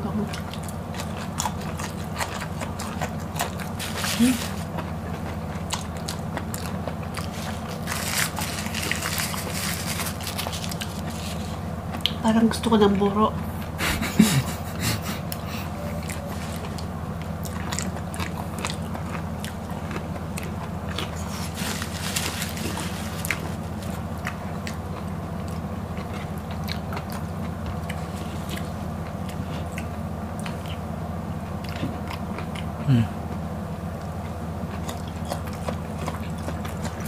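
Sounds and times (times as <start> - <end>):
steady low hum: 0.0 - 37.0
crisp chewing crunches: 0.3 - 12.2, 16.0 - 30.9, 34.0 - 37.0.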